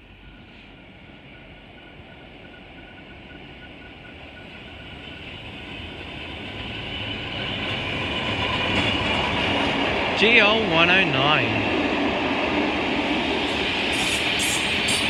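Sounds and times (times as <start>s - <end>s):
diesel locomotive engine: 0.0s - 15.0s
train wheels on rails: 0.1s - 15.0s.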